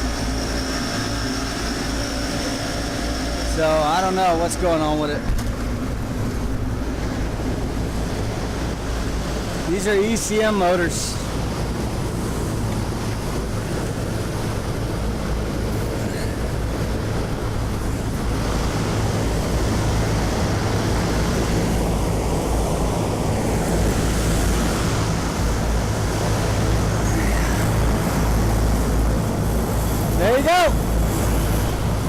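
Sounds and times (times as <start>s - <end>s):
condenser fans rushing air: 0.0s - 32.0s
low compressor hum: 0.0s - 32.0s.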